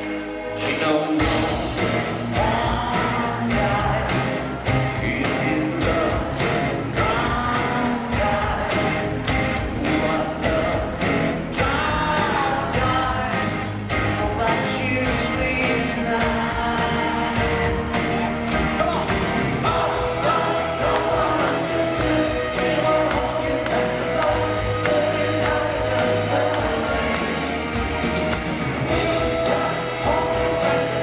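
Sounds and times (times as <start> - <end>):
band playing: 0.0 - 31.0
man singing: 0.5 - 18.0, 18.8 - 31.0
steady drum beat: 0.7 - 31.0.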